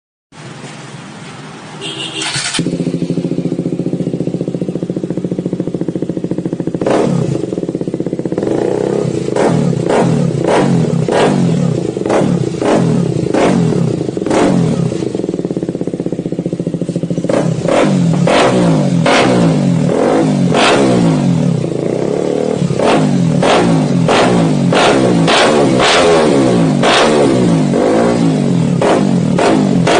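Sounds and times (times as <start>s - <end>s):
motorcycle engine revving: 0.5s - 29.9s.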